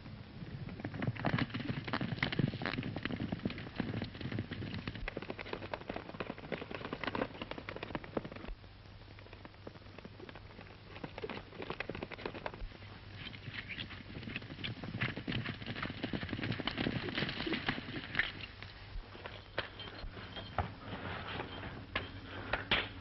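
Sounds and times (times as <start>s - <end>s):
horses galloping on sand: 0.0s - 22.7s.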